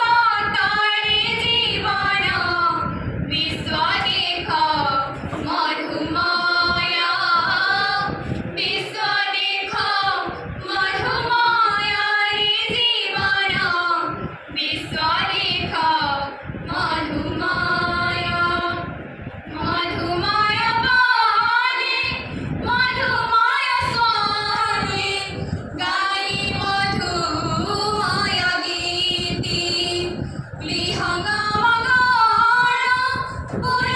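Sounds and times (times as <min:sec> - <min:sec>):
women singing together unaccompanied: 0:00.0 - 0:33.9.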